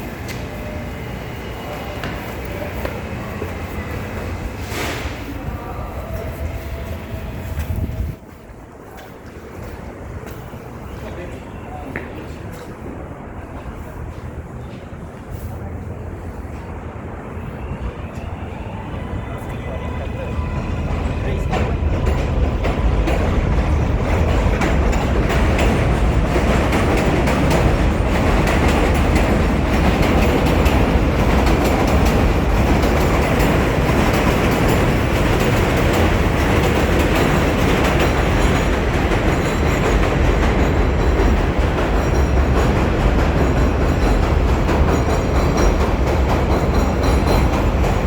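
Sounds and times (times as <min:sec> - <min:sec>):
subway train wheels rumbling: 0:00.0 - 0:48.0.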